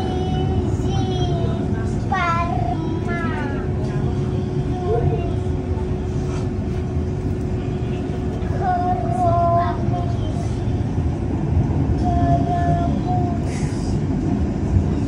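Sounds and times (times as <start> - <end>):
low machinery rumble: 0.0 - 15.0.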